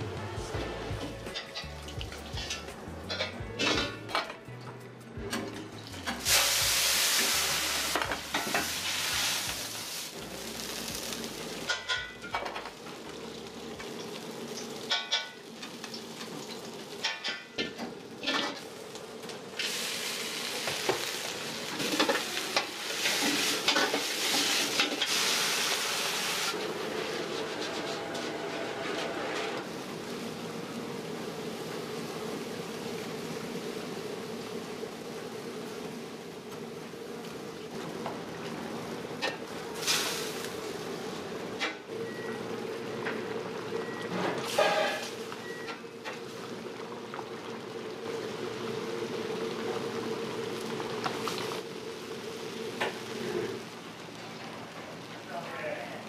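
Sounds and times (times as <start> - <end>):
wok sizzling: 0.0 - 4.5, 5.1 - 56.0
gas burner roar: 0.0 - 56.0.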